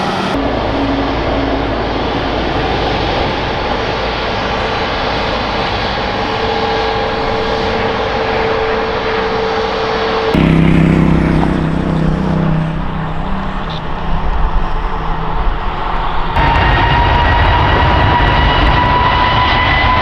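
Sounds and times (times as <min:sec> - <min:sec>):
jet engines rushing and whining: 0:00.0 - 0:20.0.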